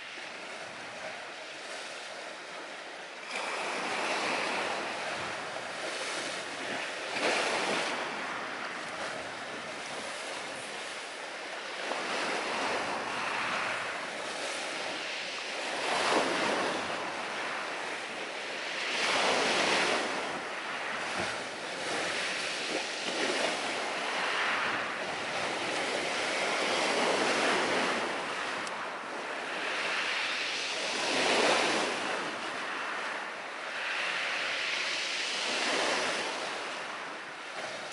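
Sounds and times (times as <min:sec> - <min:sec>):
sea surf washing ashore: 0:00.0 - 0:37.9.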